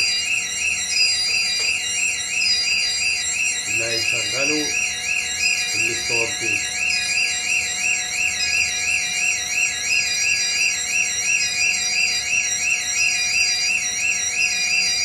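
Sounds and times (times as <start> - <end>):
fire alarm warbling: 0.0 - 15.0
short repeating alarm tone: 0.0 - 15.0.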